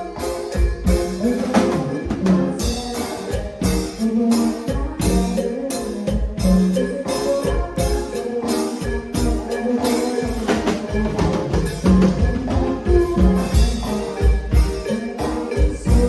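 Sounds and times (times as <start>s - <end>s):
cumbia music: 0.0s - 16.0s.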